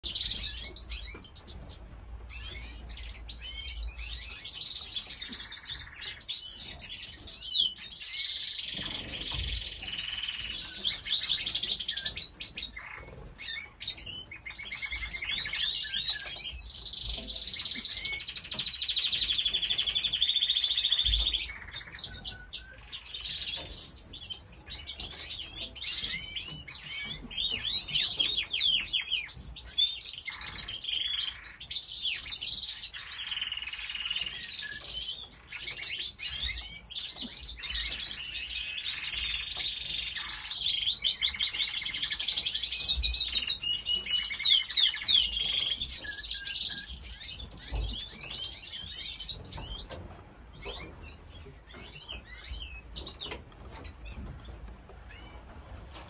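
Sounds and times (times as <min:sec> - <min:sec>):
canaries singing trills: 0:00.0 - 0:56.0.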